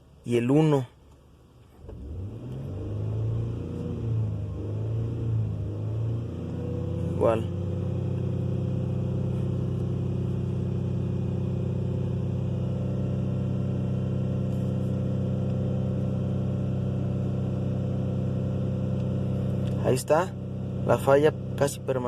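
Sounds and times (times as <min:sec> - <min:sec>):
misfiring engine running: 0:01.9 - 0:22.0.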